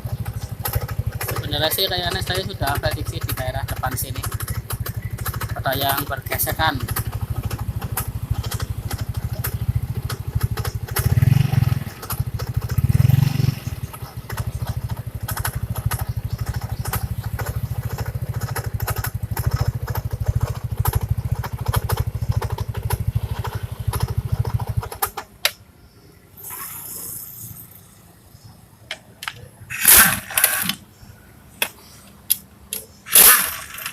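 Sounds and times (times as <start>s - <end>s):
scooter engine idling: 0.0s - 26.9s, 27.7s - 33.9s.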